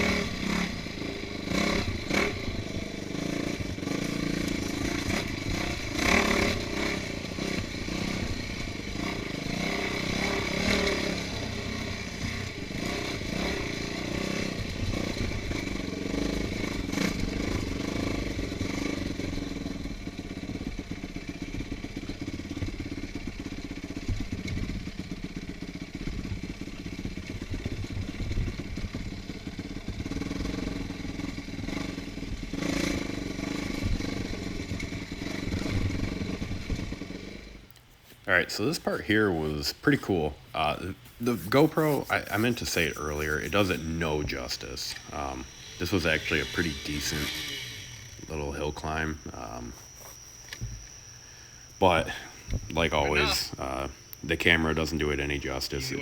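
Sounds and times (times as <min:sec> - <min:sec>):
motorcycle engine revving: 0:00.0 - 0:37.7, 0:38.4 - 0:56.0.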